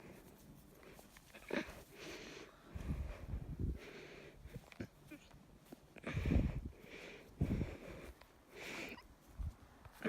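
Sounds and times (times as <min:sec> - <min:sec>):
heavy breathing: 0:00.0 - 0:09.2.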